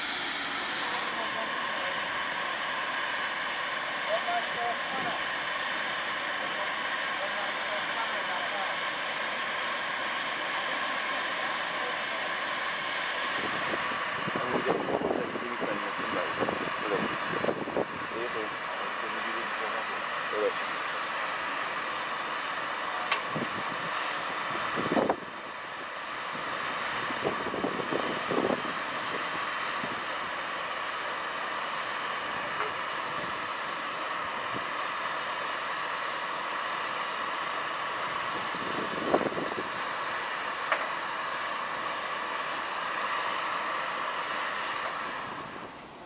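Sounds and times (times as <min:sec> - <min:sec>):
steam hissing from locomotive: 0:00.0 - 0:46.0.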